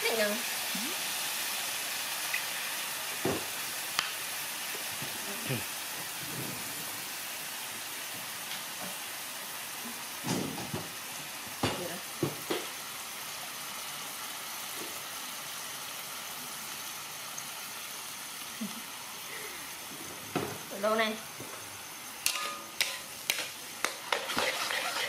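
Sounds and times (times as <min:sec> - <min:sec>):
shrimp sizzling in oil: 0:00.0 - 0:25.0.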